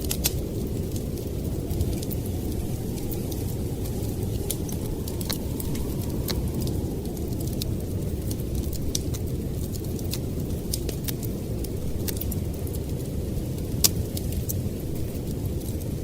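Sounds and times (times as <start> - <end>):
blizzard wind rumble: 0.0 - 16.0
wood fire crackling: 0.0 - 16.0.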